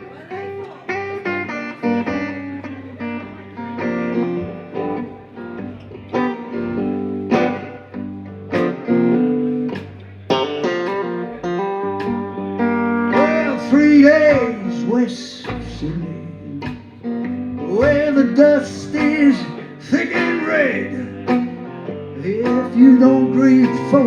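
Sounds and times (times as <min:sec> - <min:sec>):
live band playing: 0:00.0 - 0:24.0
strummed guitar chords: 0:00.0 - 0:24.0.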